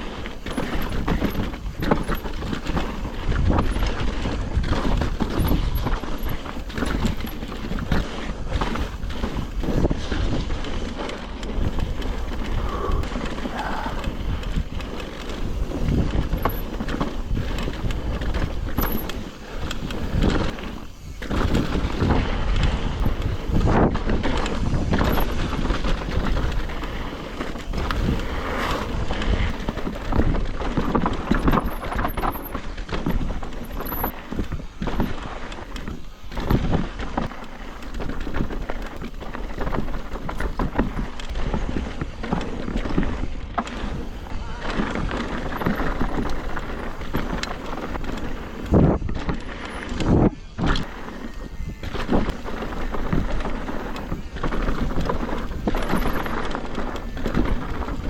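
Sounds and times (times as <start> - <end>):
bike chain and frame rattling: 0.0 - 58.0
tyres rolling over dirt and rocks: 0.0 - 58.0
wind on microphone: 0.0 - 58.0.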